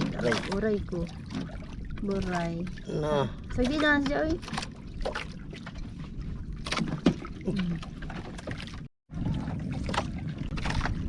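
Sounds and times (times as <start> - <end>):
water and wind against hull: 0.0 - 11.0.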